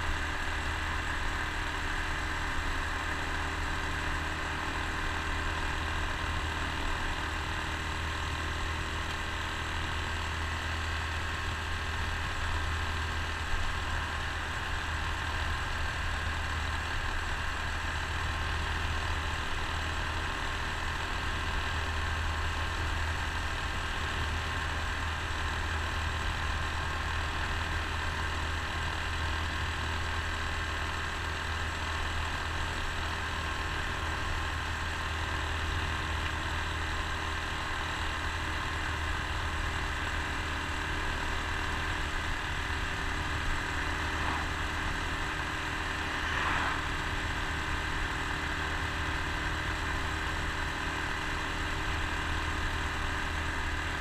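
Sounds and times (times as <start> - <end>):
motorcycle engine running: 0.0 - 54.0
road noise: 0.0 - 54.0.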